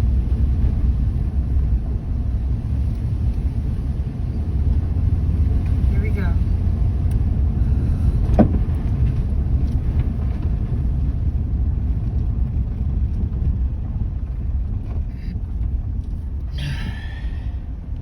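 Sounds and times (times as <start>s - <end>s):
moving car rumble: 0.0s - 18.0s.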